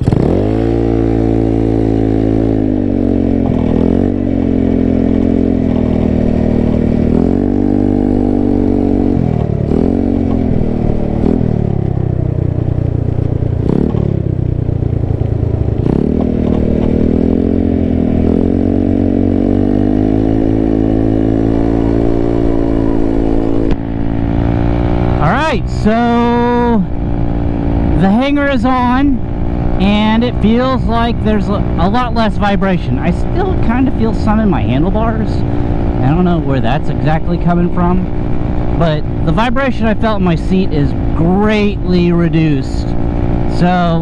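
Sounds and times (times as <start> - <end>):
scooter engine revving: 0.0 - 44.0.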